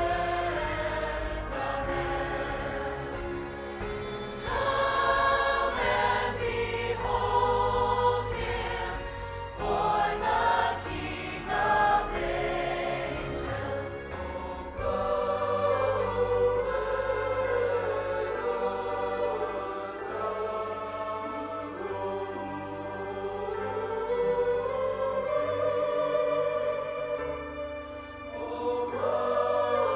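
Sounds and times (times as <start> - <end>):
church choir singing: 0.0 - 29.9
instrumental accompaniment: 0.0 - 29.9.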